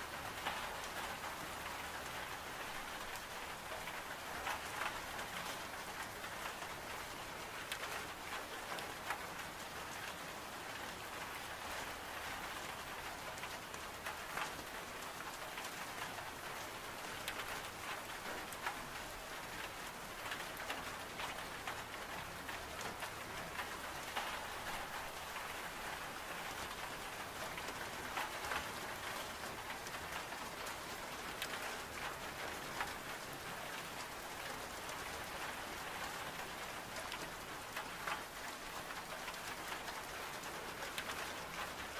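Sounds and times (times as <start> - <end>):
heavy rain on glass: 0.0 - 41.9.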